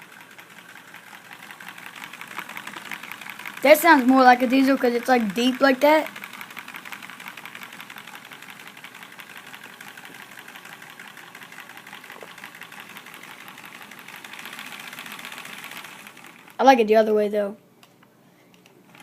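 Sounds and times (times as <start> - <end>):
toy engine clattering: 0.0 - 17.0, 18.5 - 19.0.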